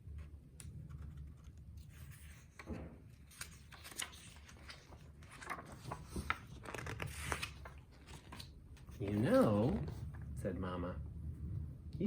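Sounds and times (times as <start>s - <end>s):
book pages turning: 0.6s - 10.2s.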